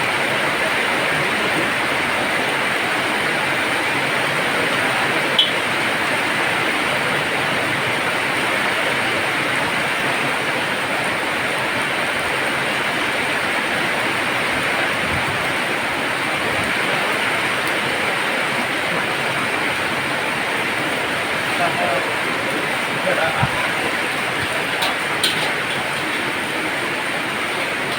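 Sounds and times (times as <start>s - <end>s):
heavy rain hissing: 0.0s - 27.9s.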